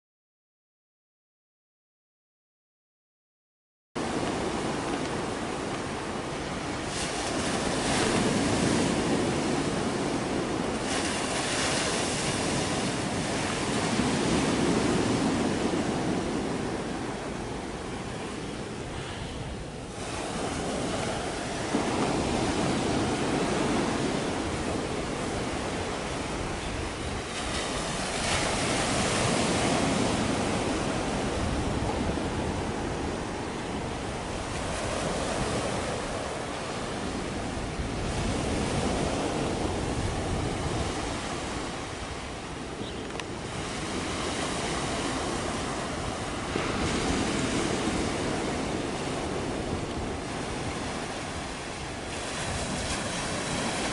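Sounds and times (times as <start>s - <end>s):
sea waves rushing: 4.0s - 53.9s
wind buffeting the microphone: 4.0s - 53.9s.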